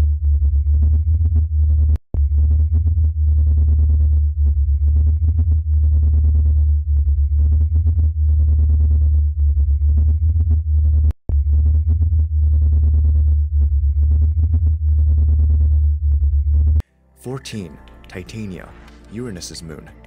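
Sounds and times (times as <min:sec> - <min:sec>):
deep synthetic drone: 0:00.0 - 0:16.8.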